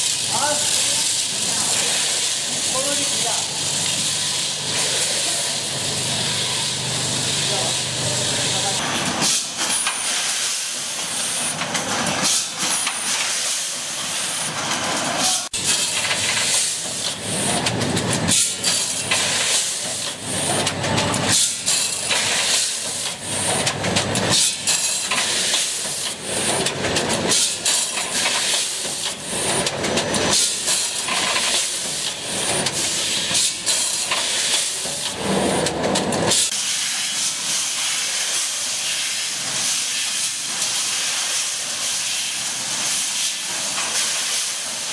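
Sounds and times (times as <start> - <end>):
mechanical clatter: 8.7 - 44.9.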